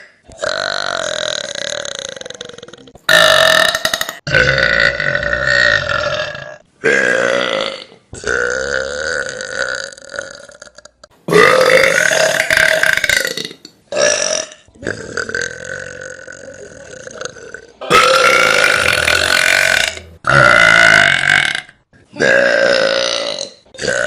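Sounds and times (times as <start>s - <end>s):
women burping loudly: 0.4s - 24.0s.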